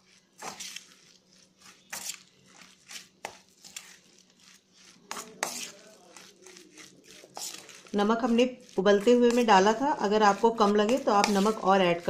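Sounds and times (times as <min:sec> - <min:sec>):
spoon scraping steel bowl: 0:00.0 - 0:12.0.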